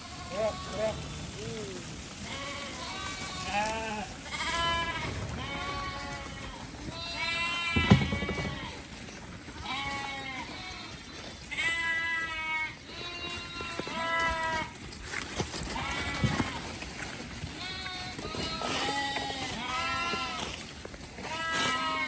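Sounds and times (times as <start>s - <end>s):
sheep and goats bleating: 0.0s - 22.0s.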